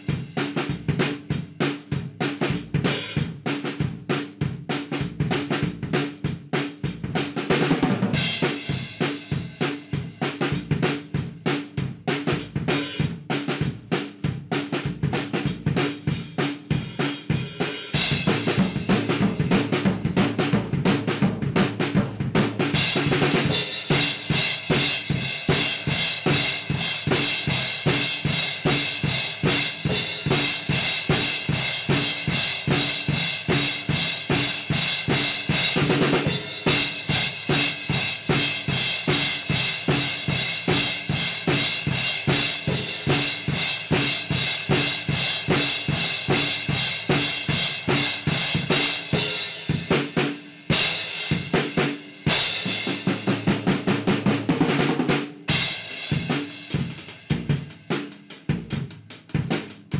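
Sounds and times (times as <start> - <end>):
drum kit beat: 0.0 - 59.9.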